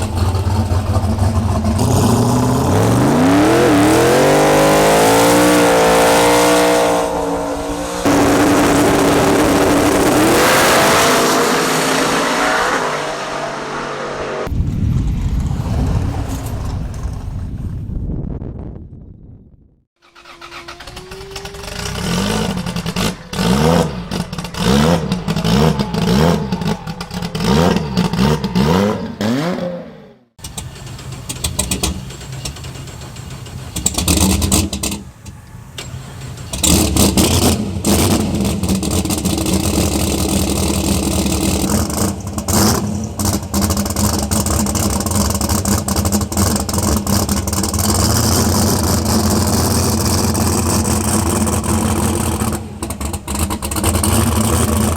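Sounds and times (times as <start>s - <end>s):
car engine revving: 0.0s - 14.5s, 20.0s - 54.9s.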